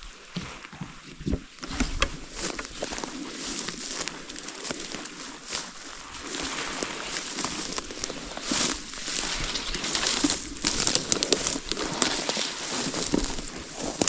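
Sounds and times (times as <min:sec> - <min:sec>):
footsteps crunching through dry leaves: 0:01.6 - 0:14.0.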